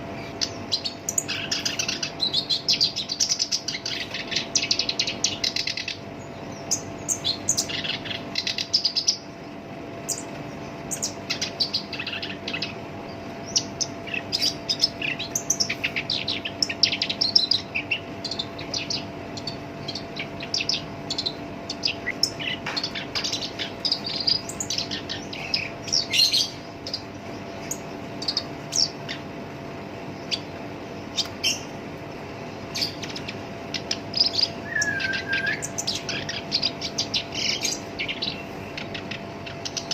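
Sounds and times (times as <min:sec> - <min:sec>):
reed warbler harsh rapid song: 0:00.0 - 0:39.9.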